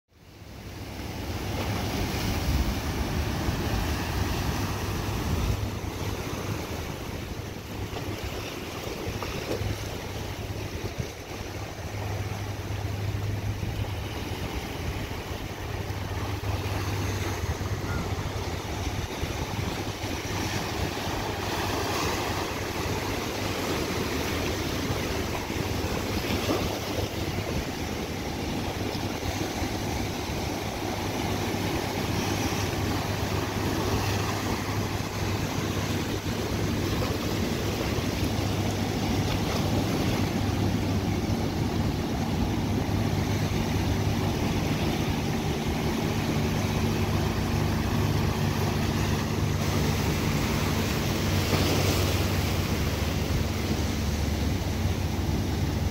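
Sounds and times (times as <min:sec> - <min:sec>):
low hum: 0:00.2 - 0:55.9
surf breaking on rocks: 0:00.8 - 0:55.9.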